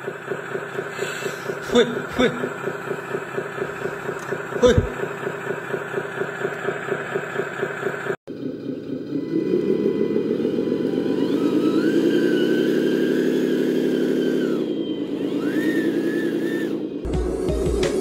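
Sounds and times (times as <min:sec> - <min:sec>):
model truck engine idling: 0:00.0 - 0:18.0.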